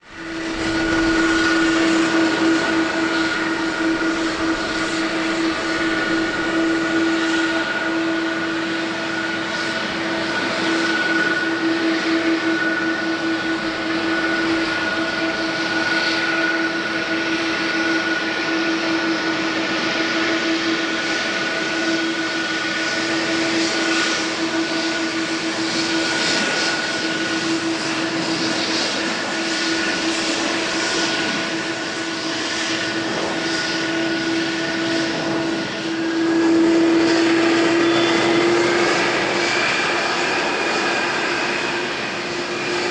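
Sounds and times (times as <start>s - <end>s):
constant engine whine: 0.0s - 42.9s
jet engines running: 0.0s - 42.9s.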